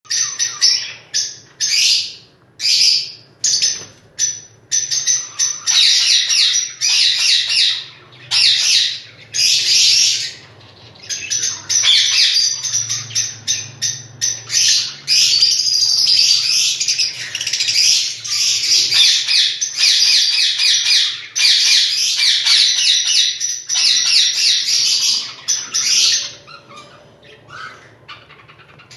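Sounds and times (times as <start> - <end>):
parrot chirps and squawks: 0.1 - 28.9.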